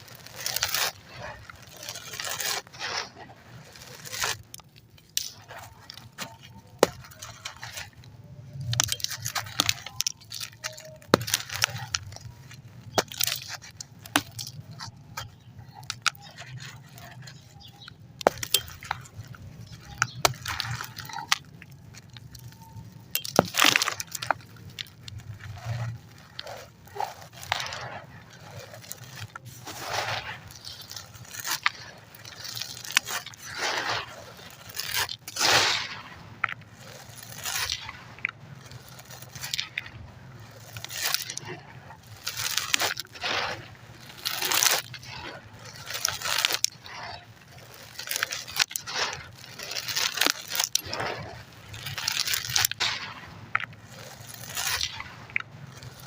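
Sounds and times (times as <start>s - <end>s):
concrete crumbling and crunching: 0.0s - 56.0s.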